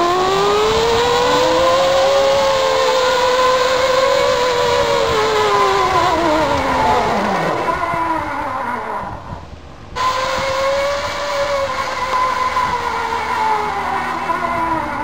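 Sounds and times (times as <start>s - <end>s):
zip line pulleys whining on cable: 0.0s - 9.4s, 10.0s - 15.0s.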